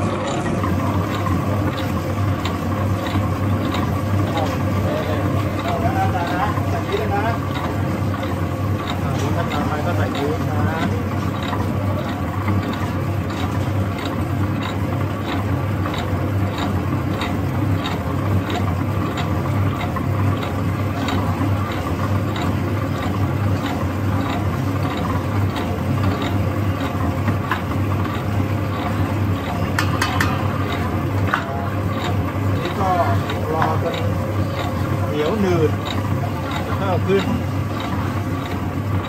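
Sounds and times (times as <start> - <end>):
stand mixer kneading dough: 0.0 - 39.0.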